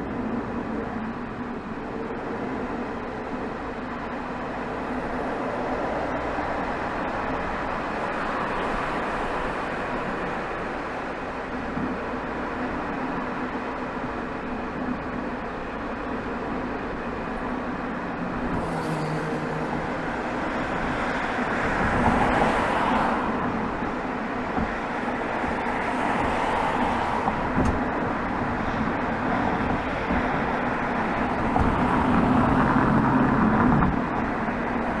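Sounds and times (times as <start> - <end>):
tyre and road noise: 0.0 - 35.0.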